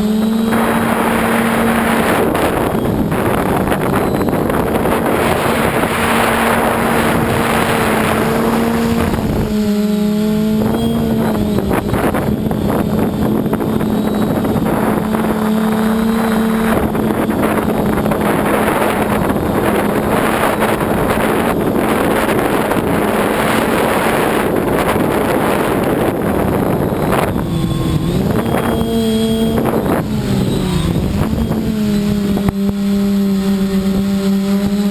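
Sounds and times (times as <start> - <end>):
drone motors humming: 0.0 - 34.9
wind noise on microphone: 0.0 - 34.9.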